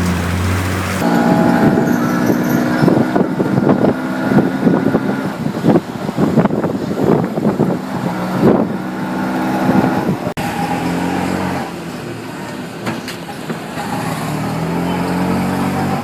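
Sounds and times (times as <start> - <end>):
vehicle engine accelerating: 0.0 - 12.0, 13.7 - 16.0
road traffic: 0.0 - 16.0.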